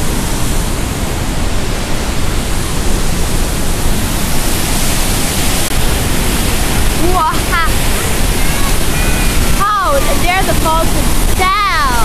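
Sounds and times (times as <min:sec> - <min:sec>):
white water rushing: 0:00.0 - 0:12.0.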